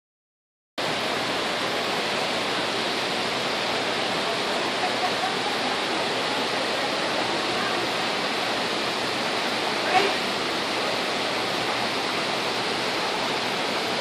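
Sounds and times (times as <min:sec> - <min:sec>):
steady rushing noise: 0:00.8 - 0:14.0.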